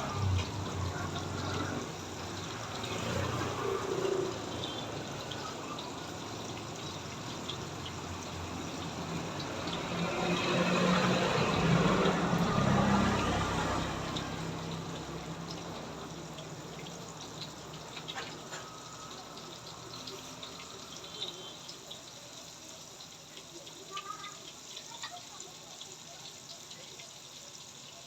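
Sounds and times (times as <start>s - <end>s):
water running and splashing: 0.0s - 28.0s.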